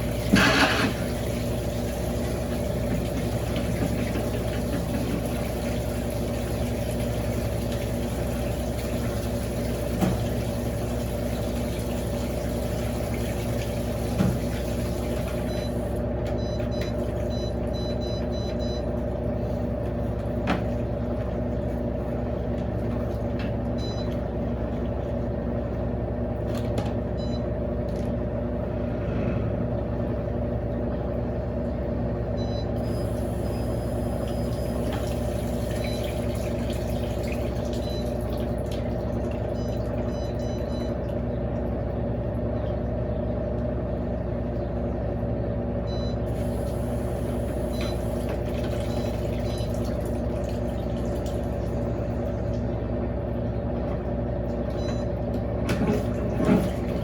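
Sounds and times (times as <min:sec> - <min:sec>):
motor hum: 0:00.0 - 0:57.0
washing machine spinning: 0:00.0 - 0:57.0.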